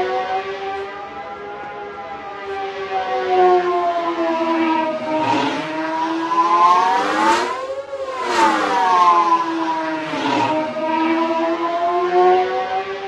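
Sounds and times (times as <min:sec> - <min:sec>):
starfighter engine whine: 0:00.6 - 0:12.7.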